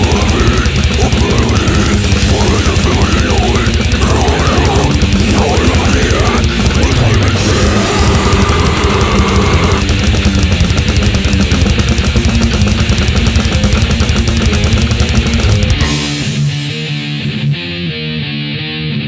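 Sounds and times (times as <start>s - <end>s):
fast dense drumming: 0.0s - 16.7s
distorted guitars and bass: 0.0s - 19.0s
guitar riff: 0.0s - 19.0s.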